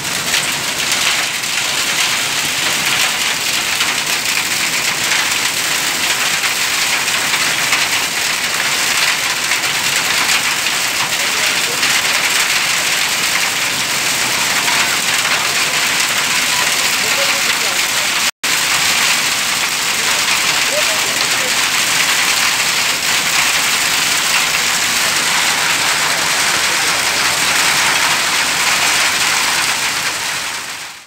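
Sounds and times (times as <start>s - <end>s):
hail pelting ground and leaves: 0.0s - 31.0s.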